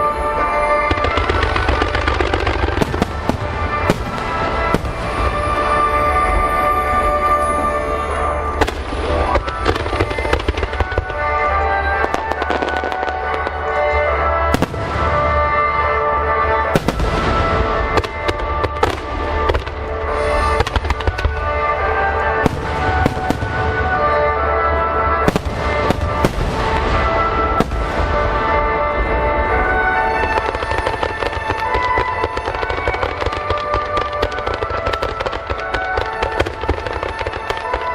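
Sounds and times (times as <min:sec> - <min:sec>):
fireworks bursting with crackles: 0:00.0 - 0:37.9.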